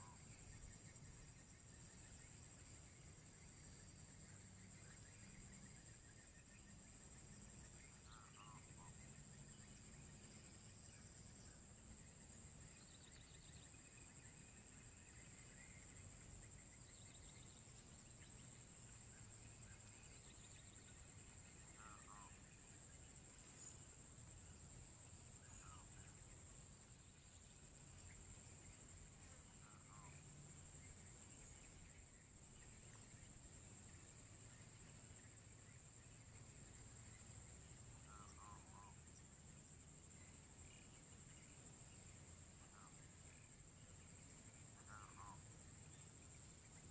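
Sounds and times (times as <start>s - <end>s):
forest insects droning: 0.0s - 46.9s.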